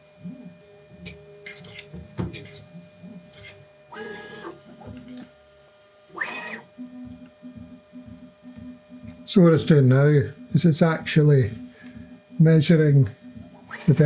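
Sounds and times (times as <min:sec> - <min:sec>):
stepper motors humming: 0:00.0 - 0:14.0.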